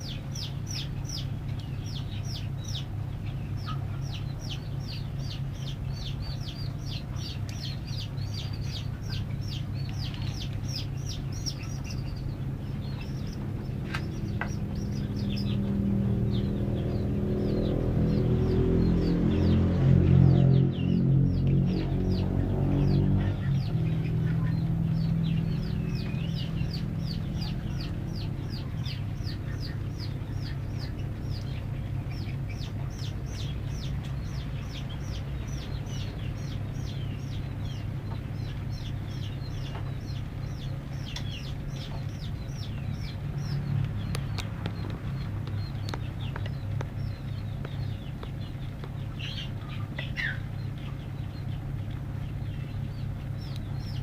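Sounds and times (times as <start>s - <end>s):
chicks peeping: 0.0s - 54.0s
steady low hum: 0.0s - 54.0s.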